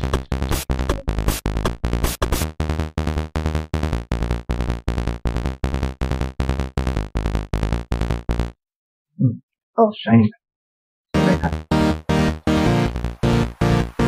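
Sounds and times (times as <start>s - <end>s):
electronic music with fast beat: 0.0s - 8.6s, 11.2s - 14.0s.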